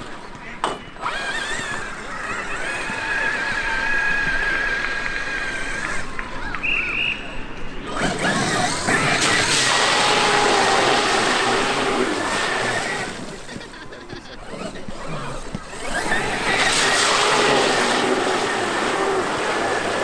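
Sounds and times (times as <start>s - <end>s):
electric motor whine: 1.0s - 6.2s, 7.8s - 20.0s.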